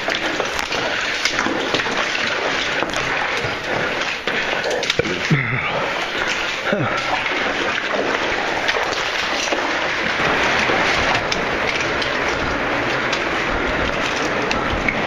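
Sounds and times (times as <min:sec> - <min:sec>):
rushing cave stream: 0:00.0 - 0:15.0.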